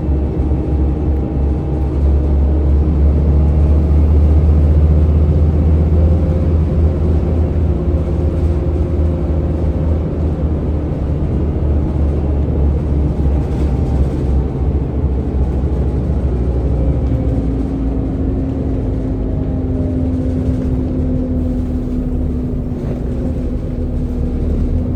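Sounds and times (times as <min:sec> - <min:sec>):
bus diesel engine rumble: 0:00.0 - 0:24.9.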